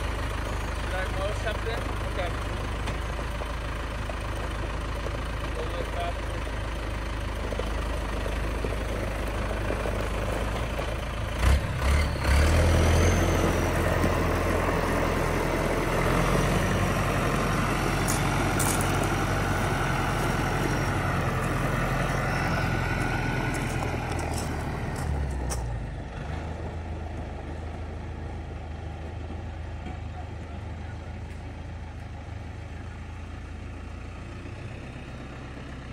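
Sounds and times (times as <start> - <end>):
tires on gravel: 0.0 - 35.9
tractor diesel engine running: 0.0 - 35.9.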